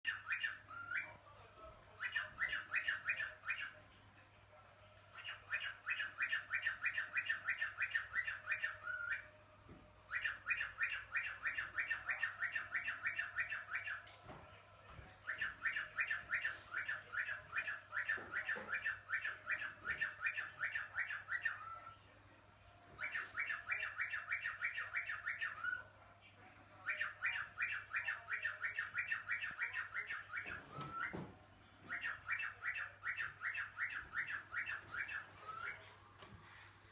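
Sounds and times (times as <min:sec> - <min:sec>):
parrot whistling: 0:00.1 - 0:01.2, 0:02.0 - 0:03.8, 0:05.2 - 0:09.3, 0:10.1 - 0:14.1, 0:15.2 - 0:22.0, 0:23.0 - 0:25.9, 0:26.8 - 0:35.9.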